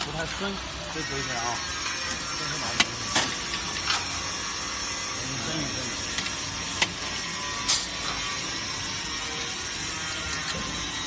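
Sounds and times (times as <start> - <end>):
steady workshop hiss: 0.0 - 11.0.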